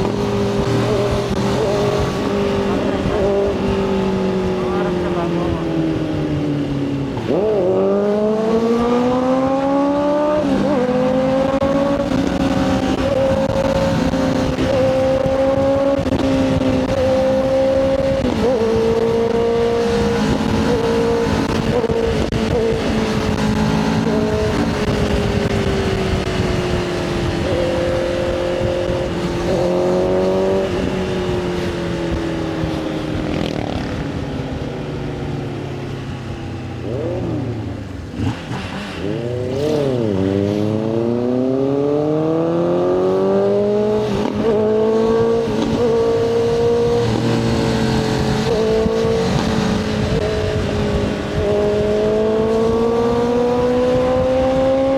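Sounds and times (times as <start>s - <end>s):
motorcycle engine revving: 0.0s - 54.9s
wind on microphone: 0.0s - 54.9s.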